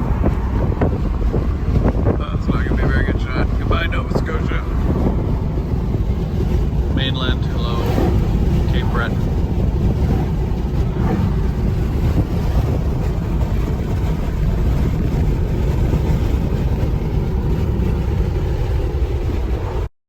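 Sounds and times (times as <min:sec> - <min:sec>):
road and tyre rumble: 0:00.0 - 0:19.9.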